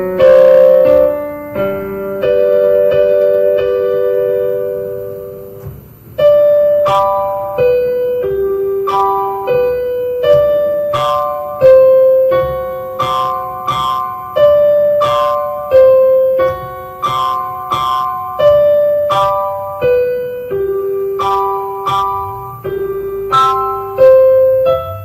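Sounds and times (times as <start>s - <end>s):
keyboard tune: 0.0s - 25.0s.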